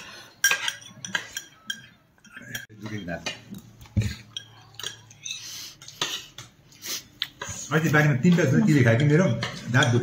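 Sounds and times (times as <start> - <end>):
cutlery clinking against dishes: 0.2 - 6.6, 7.3 - 10.0.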